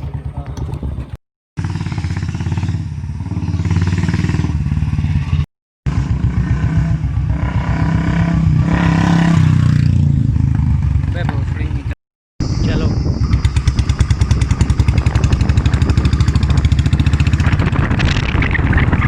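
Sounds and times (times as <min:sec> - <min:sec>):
motorcycle exhaust beat: 0:00.0 - 0:18.1.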